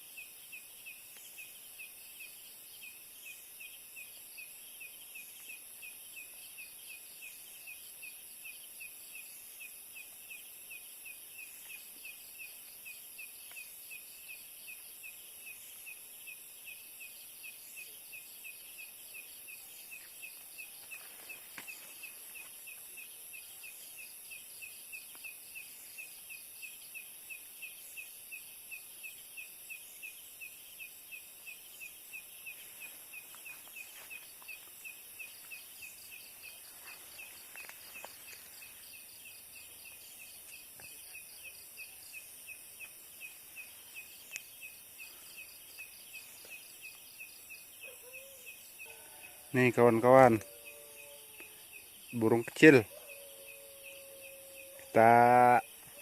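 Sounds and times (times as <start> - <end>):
insect chirping: 0.0 - 56.0
insect hiss: 0.0 - 56.0.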